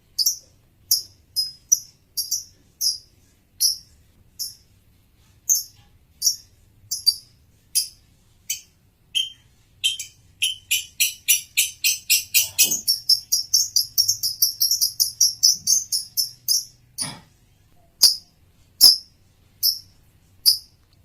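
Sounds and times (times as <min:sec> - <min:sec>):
lovebird chirping: 0:00.1 - 0:04.7, 0:05.5 - 0:20.8.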